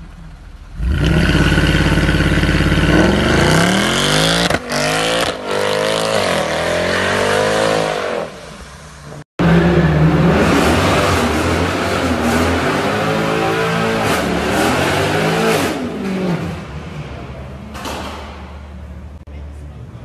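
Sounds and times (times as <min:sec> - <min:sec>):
car engine accelerating: 0:00.0 - 0:08.3, 0:09.4 - 0:17.5.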